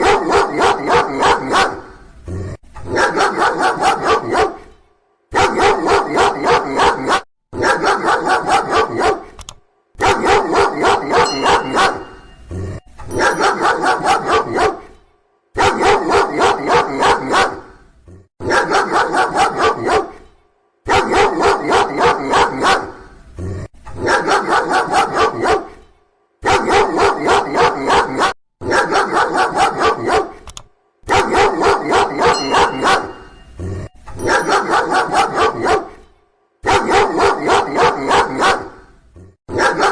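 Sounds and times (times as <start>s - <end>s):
dog barking: 0.0s - 2.0s, 2.8s - 9.4s, 10.0s - 12.4s, 13.1s - 15.0s, 15.6s - 17.8s, 18.4s - 23.1s, 24.0s - 30.4s, 31.0s - 33.6s, 34.2s - 38.9s, 39.5s - 39.9s.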